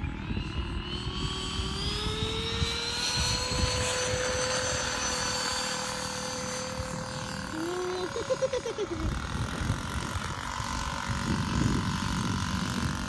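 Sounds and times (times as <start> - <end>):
electric ducted fan whine: 0.0 - 13.0
wind buffeting microphone: 0.0 - 13.0.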